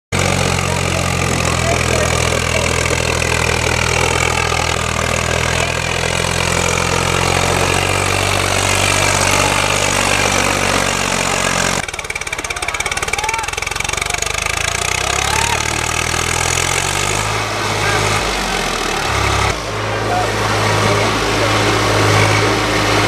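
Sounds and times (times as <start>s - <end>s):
tractor diesel engine under load: 0.1s - 23.0s.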